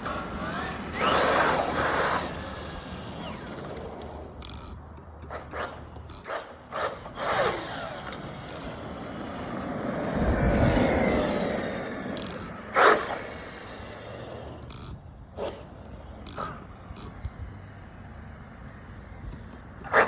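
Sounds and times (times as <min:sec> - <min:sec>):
rc truck motor whine: 0:00.0 - 0:20.0
tyre noise on road: 0:00.0 - 0:20.0.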